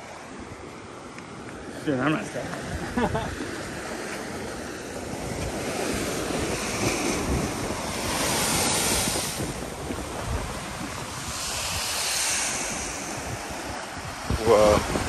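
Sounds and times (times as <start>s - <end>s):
ocean surf washing in: 0.0s - 15.0s
wind buffeting microphone: 0.0s - 15.0s.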